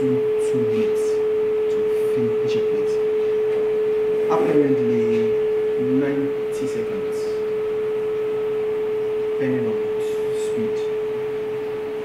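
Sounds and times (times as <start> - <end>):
platesetter steady whine: 0.0 - 12.0.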